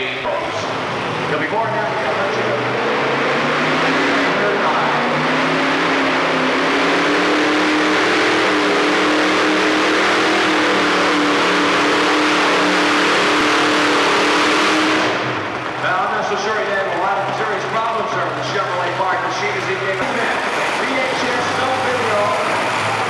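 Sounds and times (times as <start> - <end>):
tractor engines running flat out: 0.0 - 23.0.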